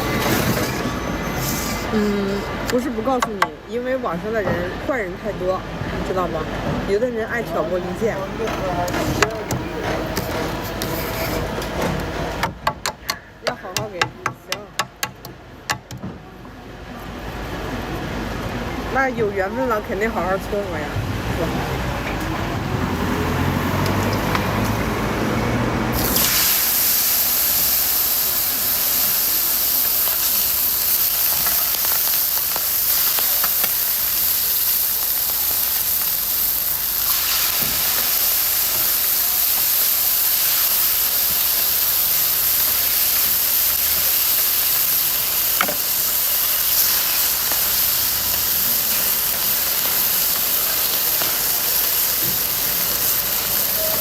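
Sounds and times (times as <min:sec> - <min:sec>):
loud steady hiss: 0:00.0 - 0:15.9, 0:16.8 - 0:54.0.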